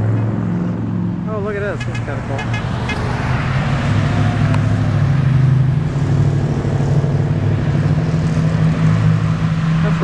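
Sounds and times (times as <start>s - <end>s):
car engine rumbling by: 0.0s - 10.0s.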